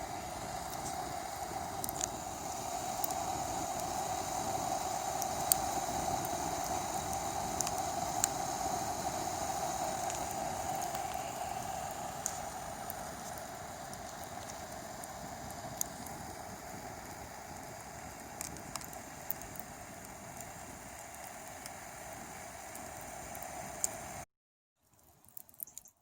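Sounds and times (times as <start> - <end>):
campfire crackles: 0.0 - 24.2, 24.9 - 25.9
kettle hissing: 0.0 - 24.3.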